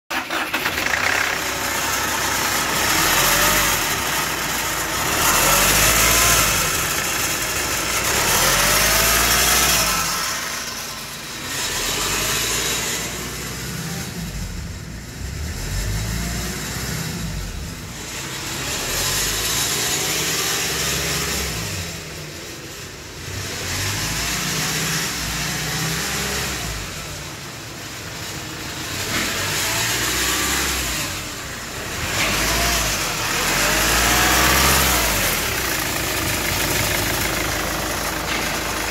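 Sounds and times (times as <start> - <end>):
diesel engine revving: 0.1 - 38.9.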